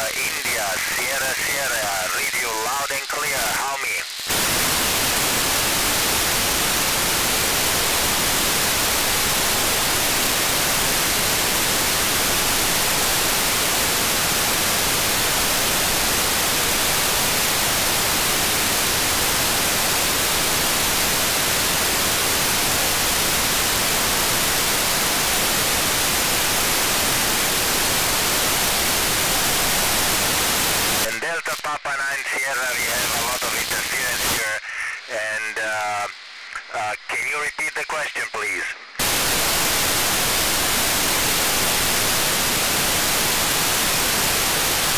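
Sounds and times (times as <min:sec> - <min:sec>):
radio static hiss: 0:00.0 - 0:44.9.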